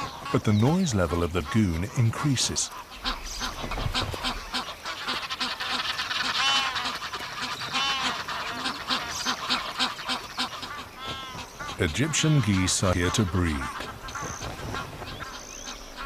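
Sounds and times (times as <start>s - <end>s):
flock of geese honking: 0.0s - 16.0s.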